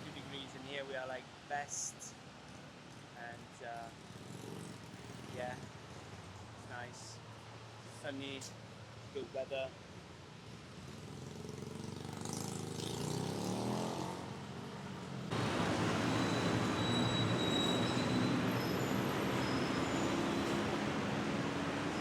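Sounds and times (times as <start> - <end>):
dense traffic roar: 0.0 - 22.0.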